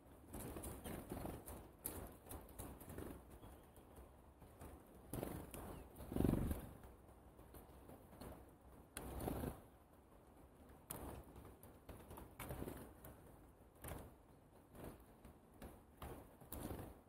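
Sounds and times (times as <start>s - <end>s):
bird pecking and rustling seeds: 0.0s - 9.8s, 10.4s - 17.0s.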